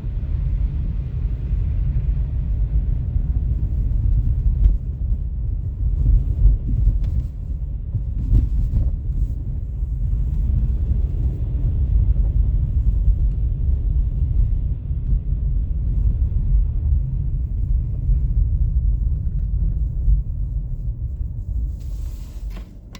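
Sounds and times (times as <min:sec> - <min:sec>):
wind buffeting microphone: 0:00.0 - 0:21.8.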